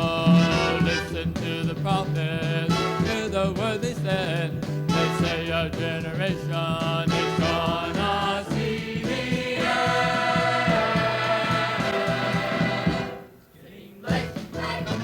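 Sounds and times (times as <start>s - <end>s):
vocal group singing: 0.0s - 3.9s, 4.9s - 15.0s
instrumental backing: 0.0s - 15.0s.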